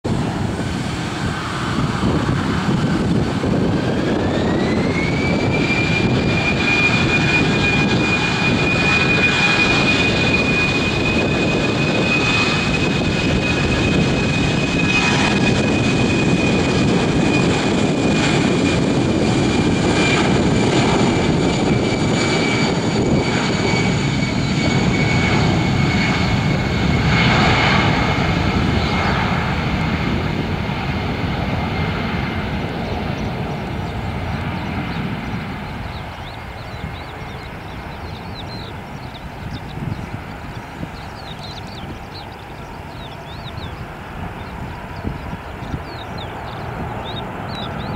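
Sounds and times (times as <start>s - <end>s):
jet engine rushing roar: 0.0s - 47.9s
jet engine whine: 0.0s - 47.9s.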